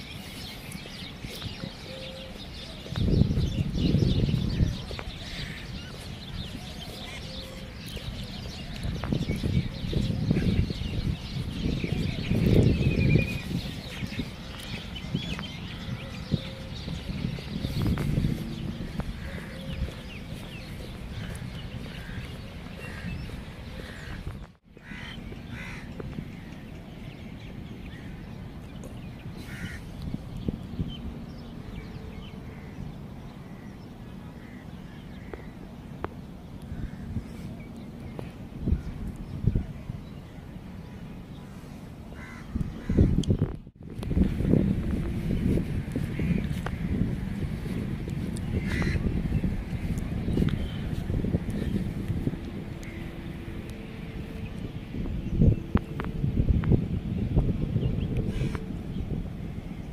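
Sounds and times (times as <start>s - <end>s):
small birds chirping: 0.0s - 59.9s
steady low rumble: 0.0s - 59.9s.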